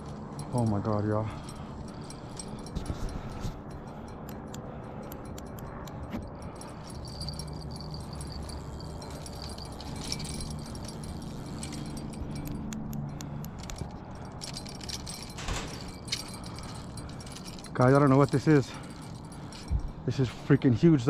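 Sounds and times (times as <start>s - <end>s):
low steady hum: 0.0s - 21.0s
small bells jingling: 0.0s - 21.0s.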